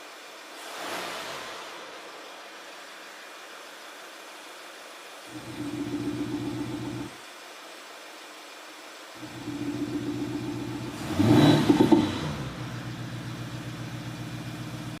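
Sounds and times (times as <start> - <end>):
car engine idling and revving: 0.0 - 7.8, 8.4 - 15.0.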